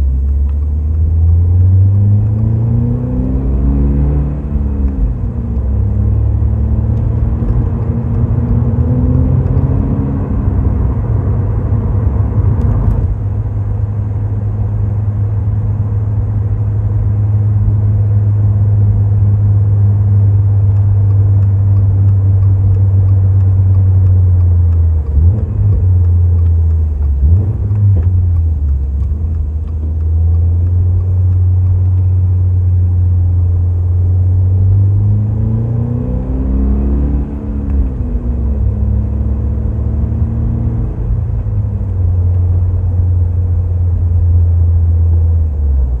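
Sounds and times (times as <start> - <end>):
car engine droning while driving: 0.0 - 46.0.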